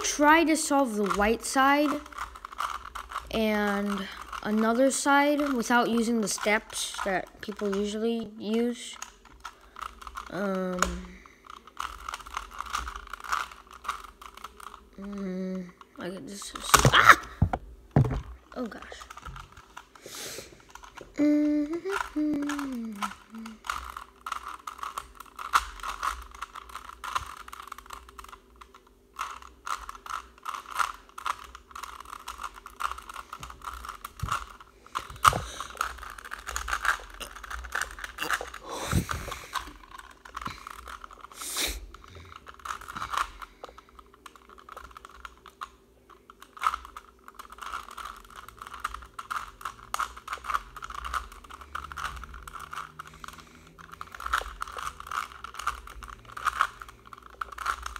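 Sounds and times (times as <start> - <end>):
puzzle cube plastic clicks: 0.0 - 57.9.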